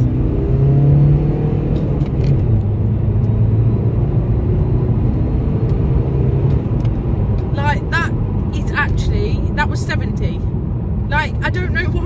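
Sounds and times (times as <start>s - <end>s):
diesel engine accelerating: 0.0s - 12.0s
road rumble: 0.0s - 12.0s.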